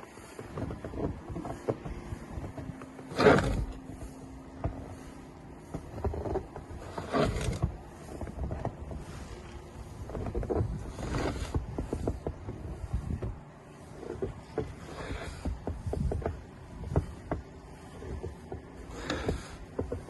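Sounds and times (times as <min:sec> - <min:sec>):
snow shovel scraping snow: 0:00.0 - 0:20.0.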